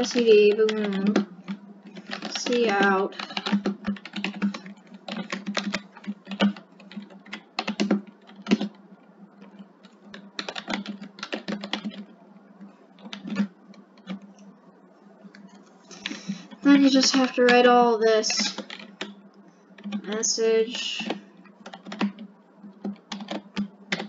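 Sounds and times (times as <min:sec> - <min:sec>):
keyboard typing: 0:00.0 - 0:08.8, 0:09.4 - 0:14.5, 0:15.3 - 0:24.0.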